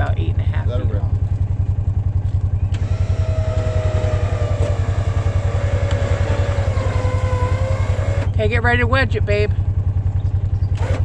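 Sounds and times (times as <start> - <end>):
machine engine idling: 0.0 - 11.0.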